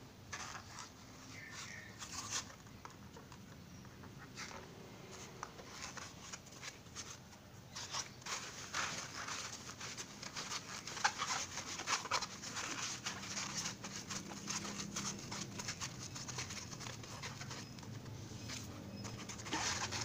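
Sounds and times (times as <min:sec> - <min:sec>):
foam sponge scratchy rustles: 0:00.3 - 0:02.5, 0:04.2 - 0:20.0.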